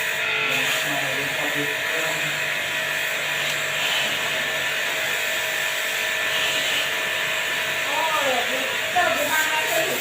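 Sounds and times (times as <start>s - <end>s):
small electric machine hissing: 0.0s - 10.0s.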